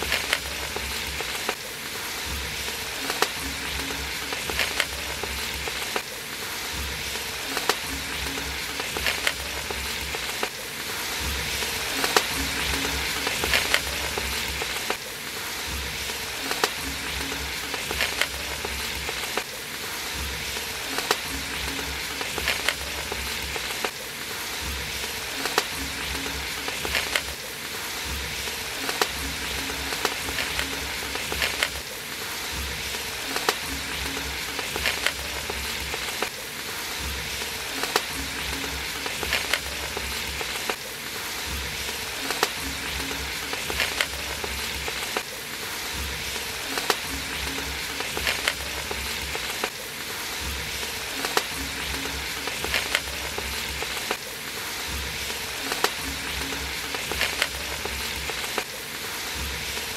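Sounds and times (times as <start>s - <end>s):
sharp pops: 0.0s - 58.8s
liquid boiling and bubbling: 0.0s - 59.9s.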